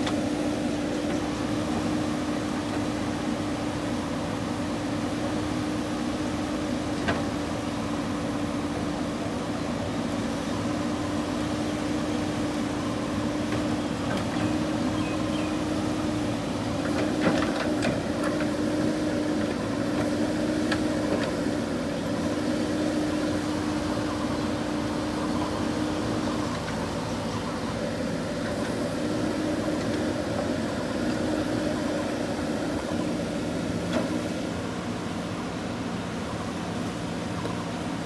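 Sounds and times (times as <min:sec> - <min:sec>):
diesel engine running under load: 0:00.0 - 0:38.0.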